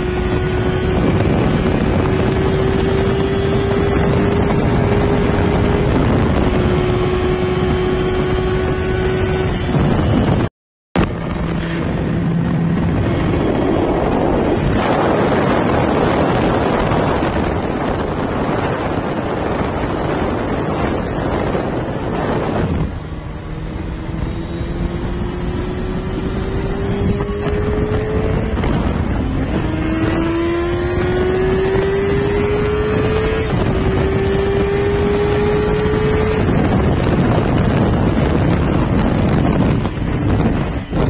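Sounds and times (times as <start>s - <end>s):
motorcycle engine accelerating: 0.0s - 41.0s
wind rushing over microphone: 0.0s - 41.0s.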